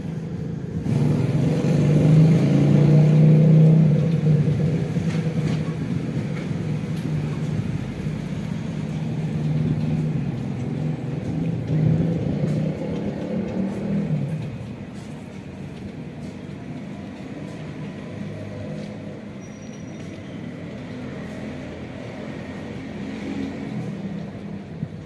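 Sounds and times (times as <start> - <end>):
low traffic rumble: 0.0 - 25.0
vehicle engine hum: 0.0 - 25.0.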